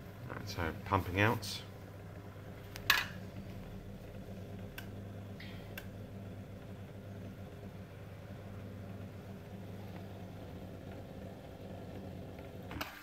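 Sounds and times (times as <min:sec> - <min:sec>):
dishwasher drain pump humming: 0:00.0 - 0:13.0.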